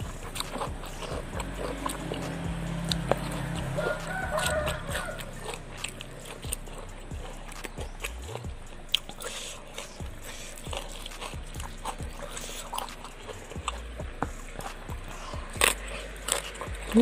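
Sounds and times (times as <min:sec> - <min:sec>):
lip smacks and wet clicks: 0:00.0 - 0:17.0
person chewing: 0:00.0 - 0:17.0.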